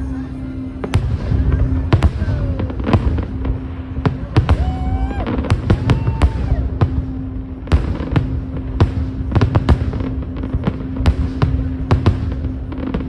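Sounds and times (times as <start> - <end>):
low rumble: 0.0 - 13.0
fireworks bangs: 0.8 - 13.0.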